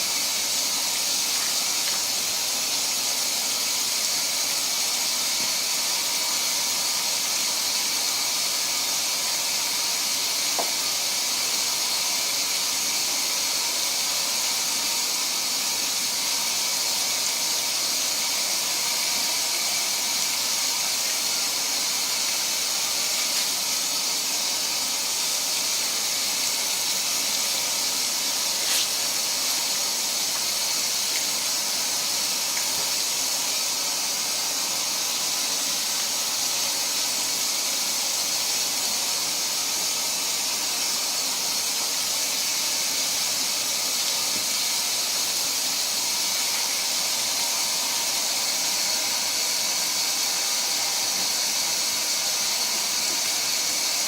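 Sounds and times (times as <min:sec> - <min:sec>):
water running into washing machine: 0:00.0 - 0:54.0.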